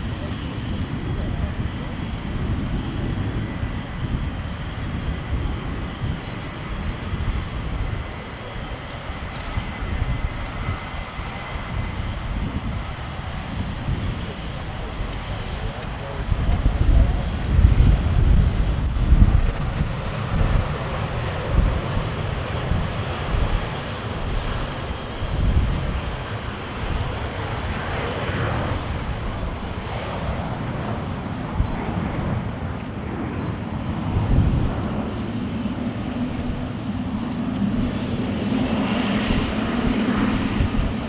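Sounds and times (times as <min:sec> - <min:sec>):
jet engines taxiing: 0:00.0 - 0:41.0.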